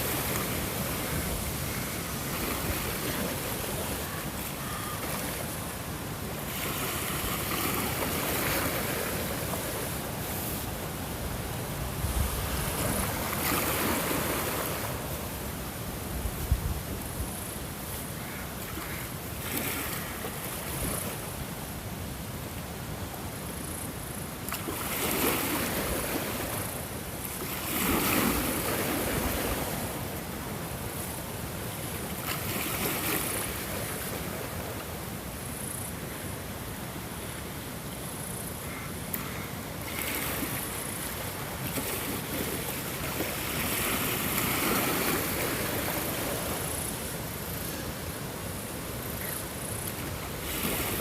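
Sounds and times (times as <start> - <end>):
ocean waves washing in: 0.0 - 18.0, 23.6 - 38.4, 39.3 - 51.0.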